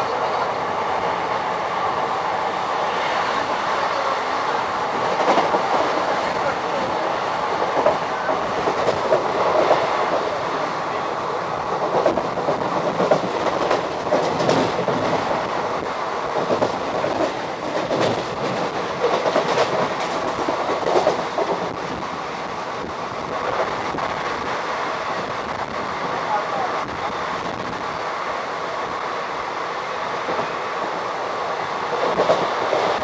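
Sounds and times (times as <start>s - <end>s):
steel wheels rumbling on rail: 0.0s - 33.0s
wheels clickety-clack over rail joints: 3.4s - 28.0s, 30.1s - 33.0s.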